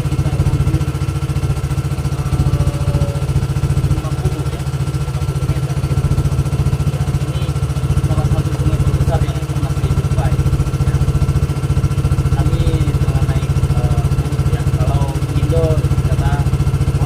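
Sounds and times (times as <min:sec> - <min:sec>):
boat engine throbbing: 0:00.0 - 0:17.0.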